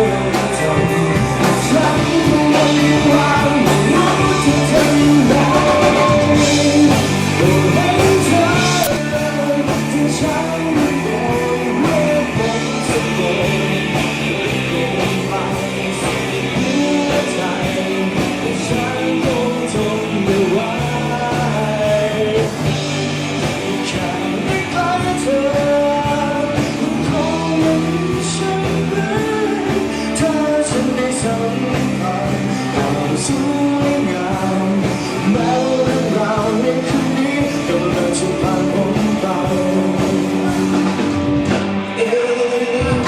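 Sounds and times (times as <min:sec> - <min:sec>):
person singing: 0:00.0 - 0:43.0
rock band playing: 0:00.0 - 0:43.0.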